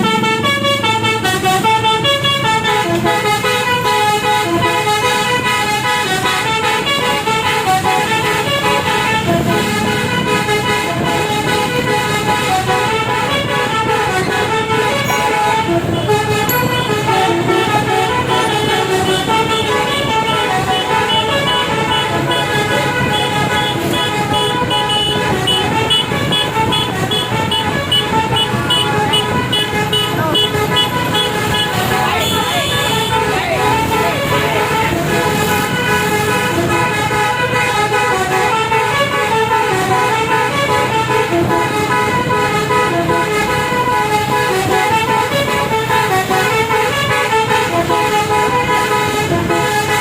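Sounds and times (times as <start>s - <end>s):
musical air horn tune: 0.1s - 50.0s.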